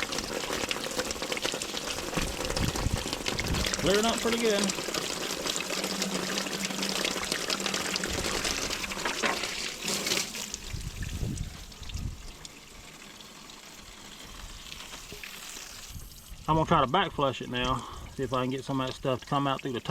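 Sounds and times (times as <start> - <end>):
water pouring and splashing: 0.0 - 19.9.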